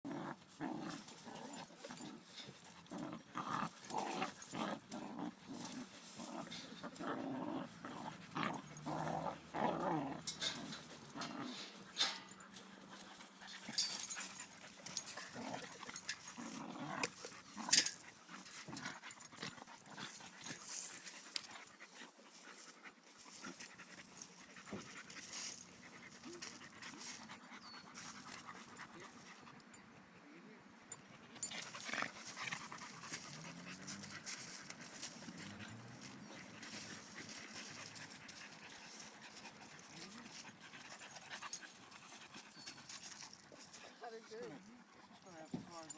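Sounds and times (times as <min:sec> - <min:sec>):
dogs panting: 0:00.9 - 0:30.0, 0:30.9 - 0:45.9.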